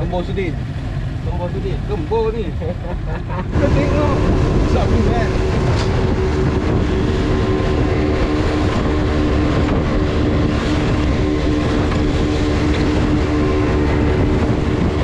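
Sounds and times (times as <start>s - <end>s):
boat engine hum: 0.0s - 15.0s
water rushing and splashing off hull: 0.0s - 15.0s
wind on microphone: 0.4s - 15.0s.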